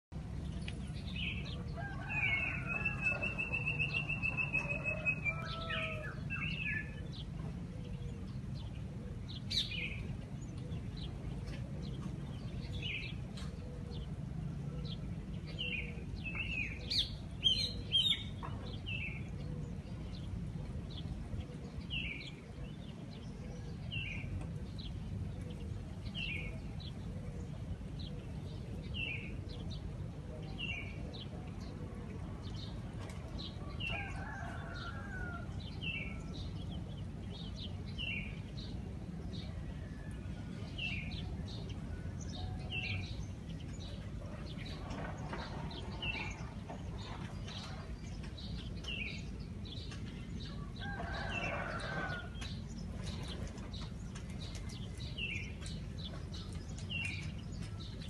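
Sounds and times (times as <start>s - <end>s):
low city hum: 0.1s - 58.0s
small birds chirping: 0.2s - 58.0s.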